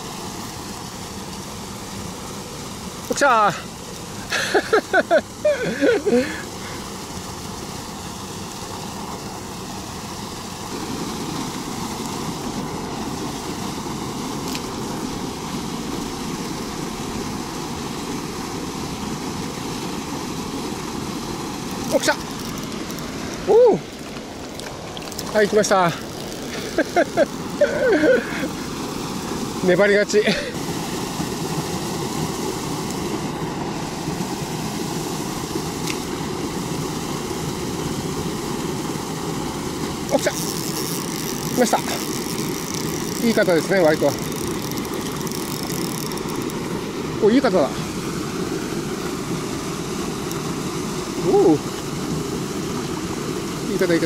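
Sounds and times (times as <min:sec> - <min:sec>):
water rushing over a weir: 0:00.0 - 0:54.0.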